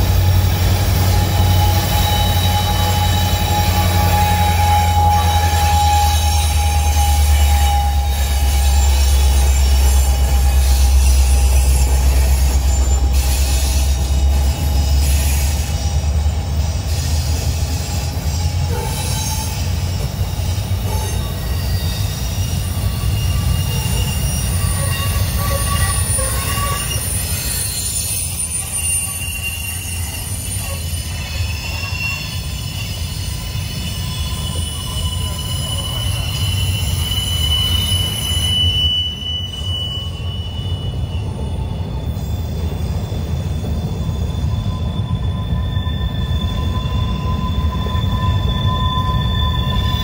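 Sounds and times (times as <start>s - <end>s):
freight train rumbling: 0.0s - 50.0s
high-pitched wheel squeal: 0.0s - 50.0s.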